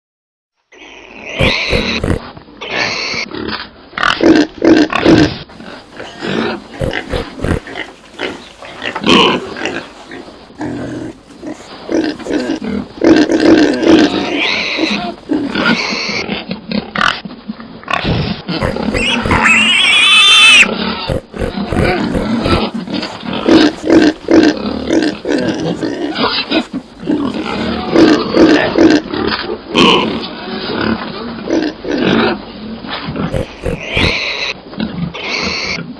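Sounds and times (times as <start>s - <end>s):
pig squealing: 0.7s - 9.8s, 10.9s - 17.2s, 17.9s - 35.9s
pigs grunting: 0.8s - 35.9s.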